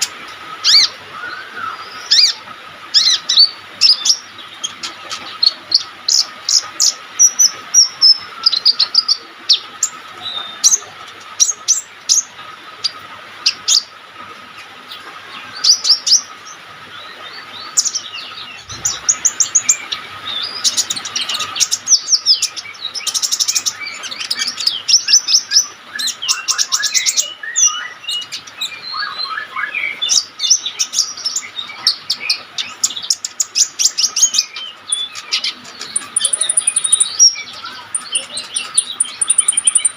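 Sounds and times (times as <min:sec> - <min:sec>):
bird chirping and trilling: 0:00.0 - 0:13.9, 0:15.3 - 0:39.9.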